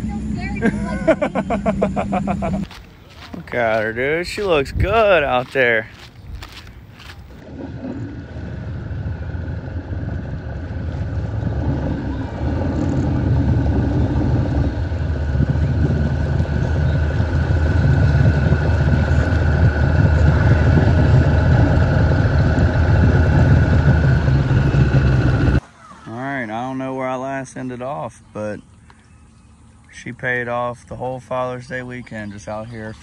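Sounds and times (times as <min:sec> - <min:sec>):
boat engine humming with whine: 0:00.0 - 0:25.6, 0:26.8 - 0:33.0.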